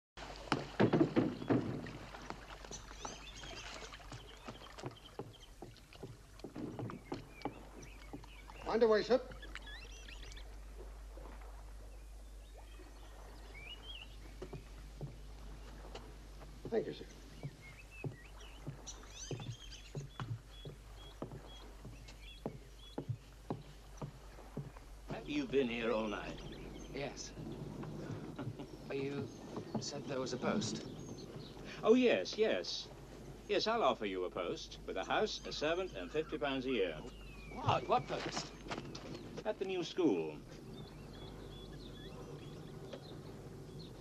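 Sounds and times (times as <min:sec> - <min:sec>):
oars knocking against boat: 0:00.2 - 0:44.0
oars splashing: 0:00.2 - 0:44.0
water sloshing: 0:00.2 - 0:44.0
birds chirping: 0:00.3 - 0:44.0.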